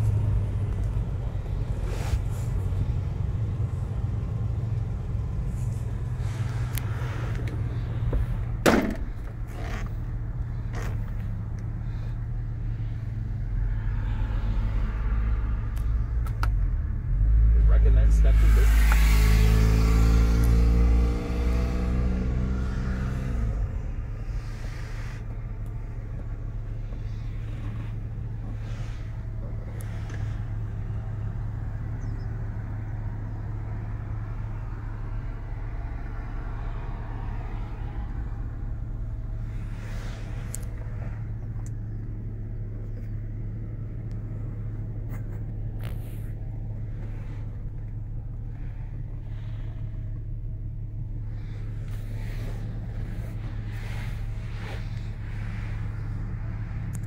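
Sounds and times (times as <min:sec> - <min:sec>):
car engine idling: 0:00.0 - 0:21.1, 0:22.1 - 0:57.0.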